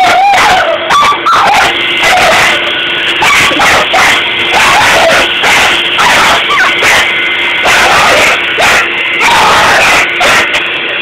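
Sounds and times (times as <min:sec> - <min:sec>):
dog yipping and howling: 0:00.0 - 0:02.6, 0:03.2 - 0:10.5
vacuum cleaner running: 0:00.0 - 0:11.0.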